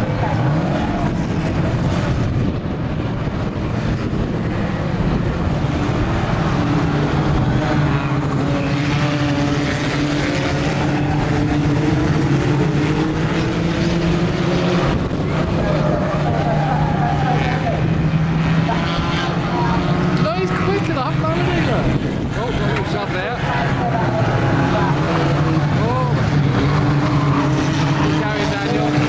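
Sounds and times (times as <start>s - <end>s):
racing car engines droning: 0.0s - 29.0s.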